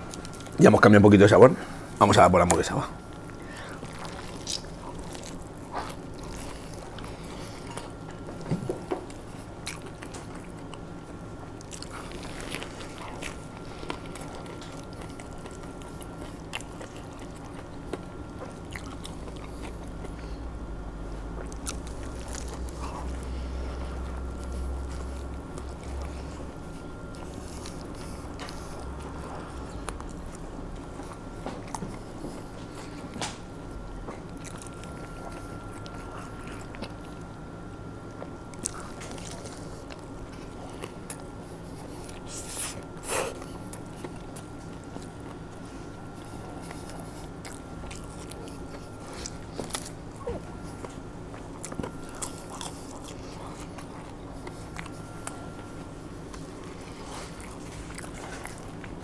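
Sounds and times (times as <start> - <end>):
person chewing crunchy food: 0.0 - 0.7, 1.8 - 59.0
steady hum: 0.0 - 59.0.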